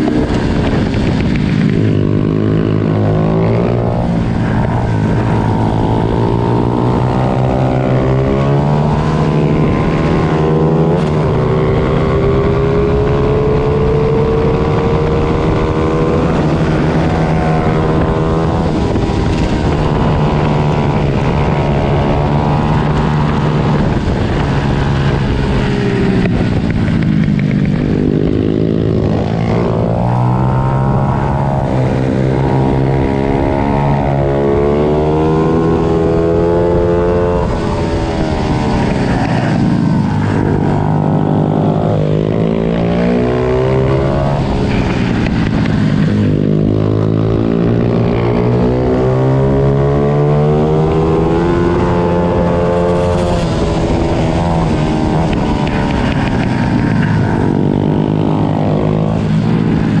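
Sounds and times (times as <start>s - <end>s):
small motorbike engines racing: 0.0s - 60.0s.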